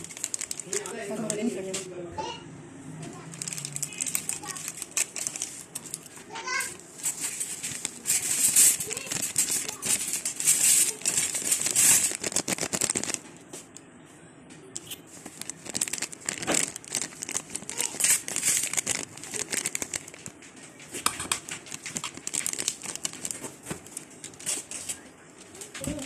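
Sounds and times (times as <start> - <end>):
dense crinkling and crackling: 0.0 - 2.0, 3.0 - 13.8, 14.7 - 26.0.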